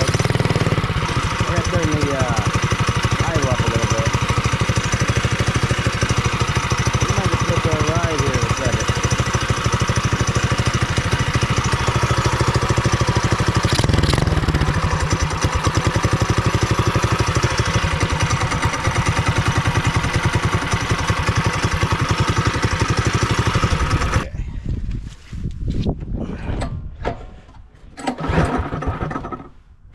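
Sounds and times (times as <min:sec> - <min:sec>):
small gasoline engine idling: 0:00.0 - 0:24.3.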